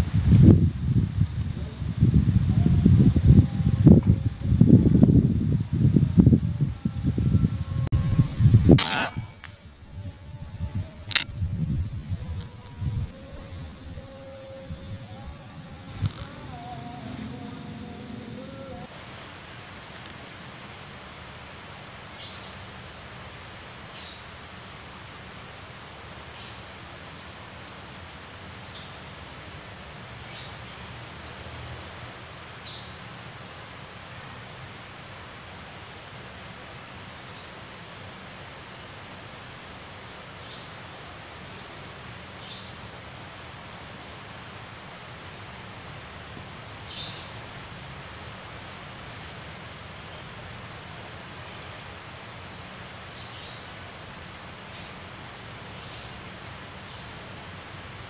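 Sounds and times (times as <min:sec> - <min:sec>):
faint short insect calls: 0:00.0 - 0:58.0
insects droning: 0:00.0 - 0:58.0.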